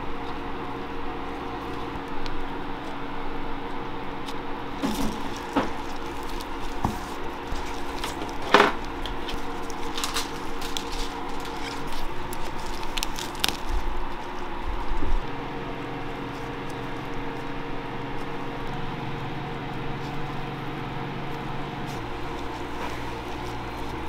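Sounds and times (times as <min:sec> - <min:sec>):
machine hum: 0:00.0 - 0:24.0
gloved hands rustling lettuce: 0:04.0 - 0:24.0.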